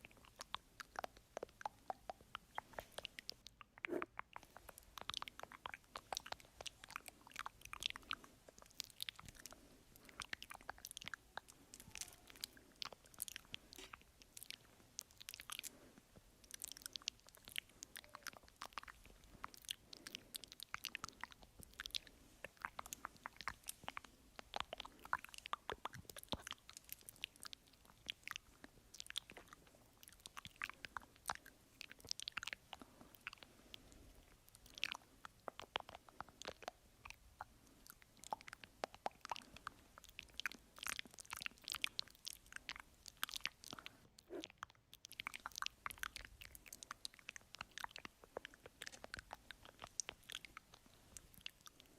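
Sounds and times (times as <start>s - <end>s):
wet mouth clicks and smacks: 0.0s - 51.9s.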